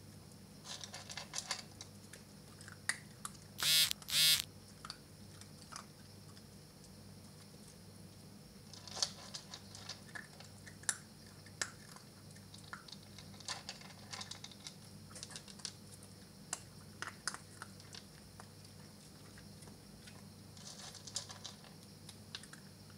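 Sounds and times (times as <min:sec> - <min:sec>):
puppy crunching dry kibble: 0:00.6 - 0:03.5, 0:04.8 - 0:06.6, 0:08.7 - 0:22.7.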